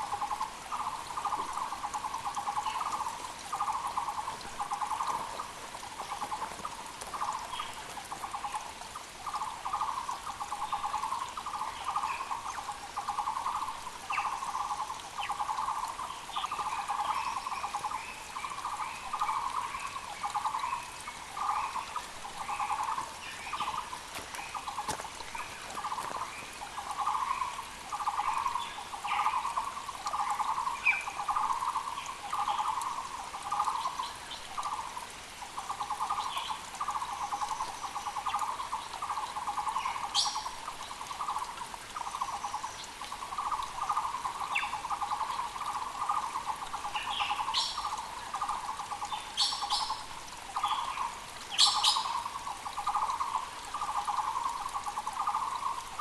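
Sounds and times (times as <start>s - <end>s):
creek hiss: 0.0s - 56.0s.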